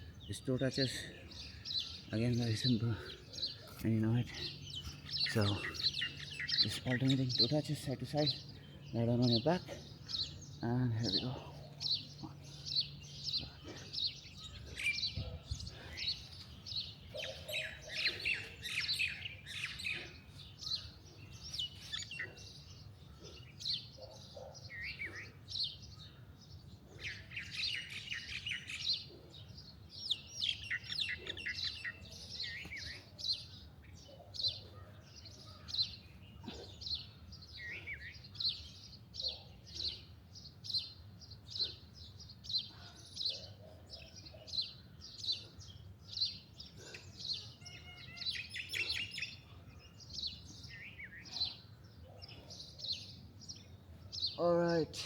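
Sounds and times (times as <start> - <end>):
birds singing and chirping: 0.0 - 55.0.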